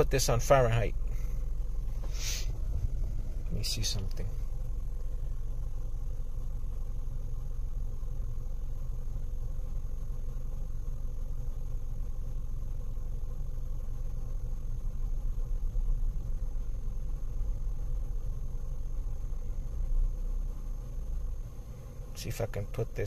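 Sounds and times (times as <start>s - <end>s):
low rumble inside car cabin: 0.0s - 23.0s.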